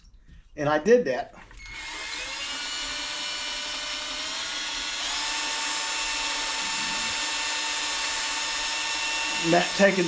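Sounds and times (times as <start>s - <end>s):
electric drill running: 1.5s - 10.0s.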